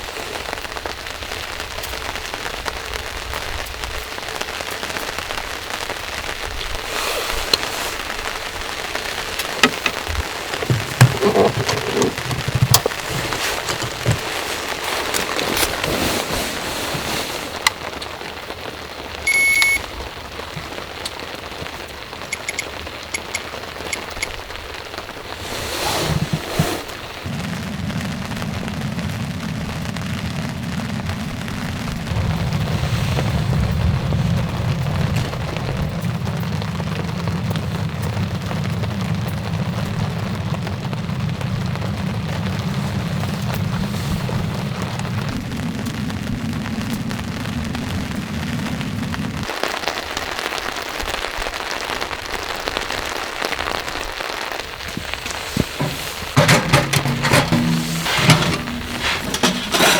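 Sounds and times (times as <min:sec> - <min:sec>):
steady rain falling: 0:00.0 - 0:56.4.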